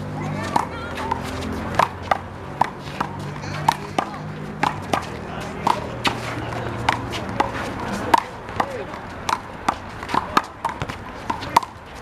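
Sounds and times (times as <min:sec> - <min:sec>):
handball smacking wall and pavement: 0:00.2 - 0:12.0.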